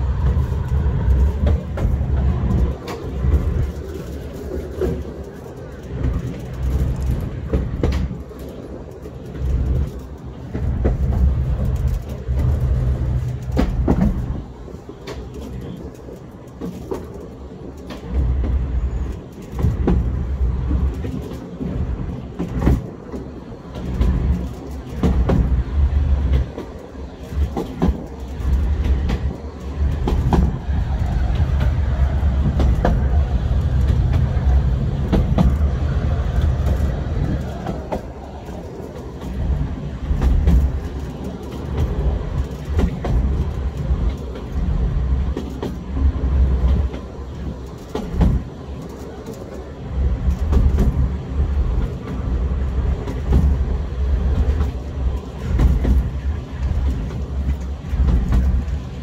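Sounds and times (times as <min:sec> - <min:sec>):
ride train rumbling: 0:00.0 - 0:59.0.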